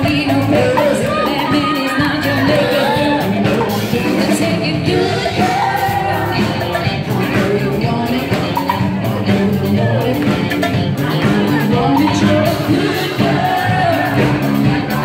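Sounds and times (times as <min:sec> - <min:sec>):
dance music with singing: 0:00.0 - 0:15.0.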